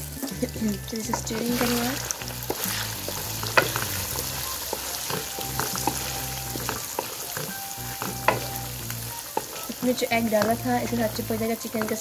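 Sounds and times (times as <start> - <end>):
chicken sizzling in oil: 0.0 - 12.0
spatula knocking and scraping pan: 1.1 - 12.0.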